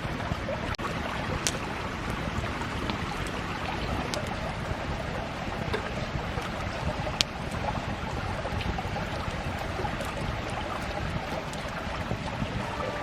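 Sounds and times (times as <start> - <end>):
campfire crackling and popping: 0.6 - 13.0.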